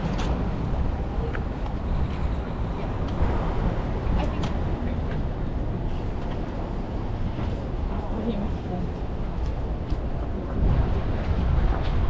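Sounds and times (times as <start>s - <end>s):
faint voices of passers-by: 0.0s - 12.0s
traffic rumble: 0.0s - 12.0s.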